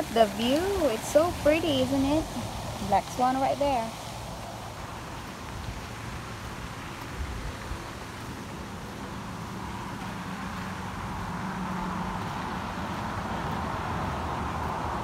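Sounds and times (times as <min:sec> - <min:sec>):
outdoor background rushing: 0:00.0 - 0:15.0.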